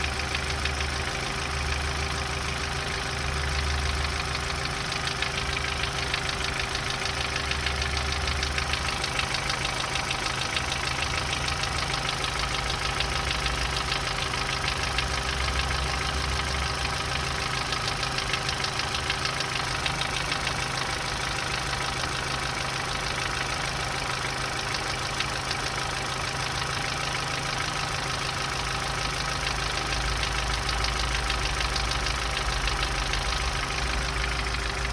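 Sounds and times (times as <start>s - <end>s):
car engine idling: 0.0s - 34.9s
engine knocking tick: 0.0s - 34.9s.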